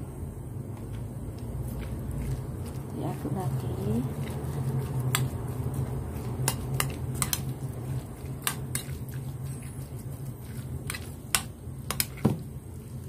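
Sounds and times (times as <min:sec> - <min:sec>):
steady low hum: 0:00.0 - 0:13.0
spoon mashing tofu: 0:01.5 - 0:13.0.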